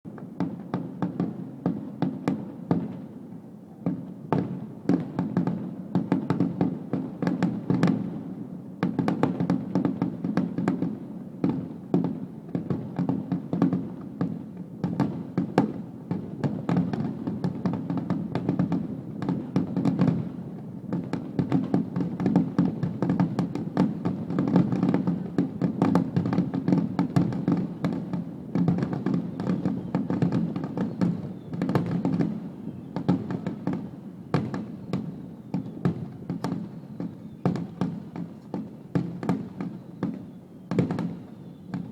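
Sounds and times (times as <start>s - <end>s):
continuous fireworks rumble: 0.1s - 41.9s
fireworks bangs and crackles: 0.1s - 41.9s.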